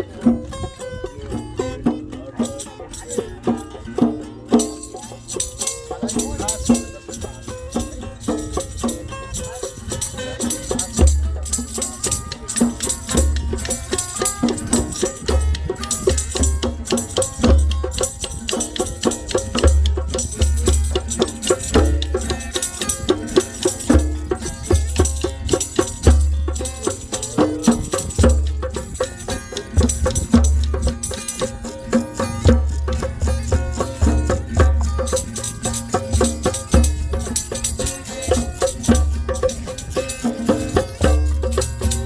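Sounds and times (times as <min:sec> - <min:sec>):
folk music: 0:00.0 - 0:42.0
jingling tambourine: 0:00.0 - 0:42.0
steady drum rhythm: 0:00.0 - 0:42.0.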